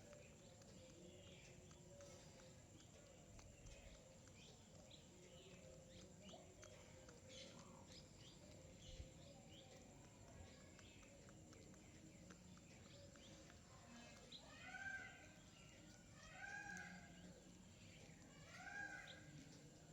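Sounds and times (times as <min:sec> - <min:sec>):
low background hum: 0:00.0 - 0:19.9
small birds chirping: 0:00.0 - 0:19.9.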